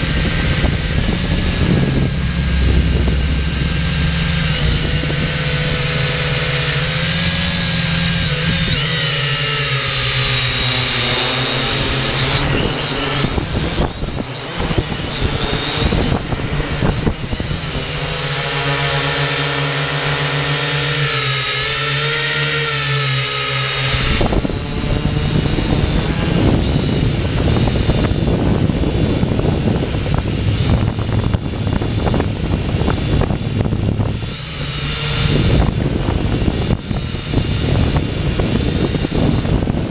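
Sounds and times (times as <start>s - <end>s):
wind noise on microphone: 0.0s - 22.8s, 23.7s - 39.9s
drone motors whining: 0.0s - 39.9s.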